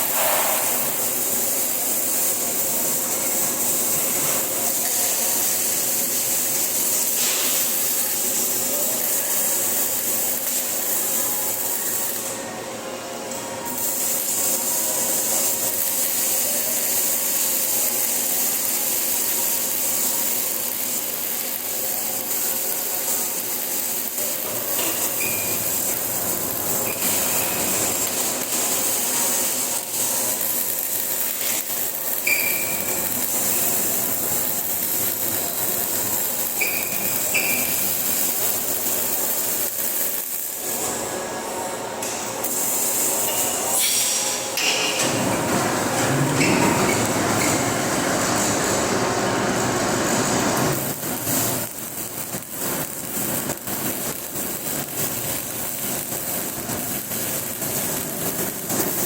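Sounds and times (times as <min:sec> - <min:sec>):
welding arc crackling: 0:00.0 - 0:12.6, 0:13.4 - 0:59.0.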